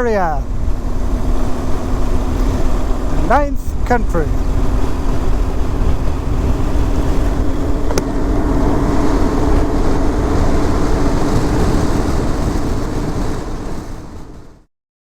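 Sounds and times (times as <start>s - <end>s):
wind and road noise: 0.0s - 14.7s
motorcycle engine running: 0.4s - 14.6s.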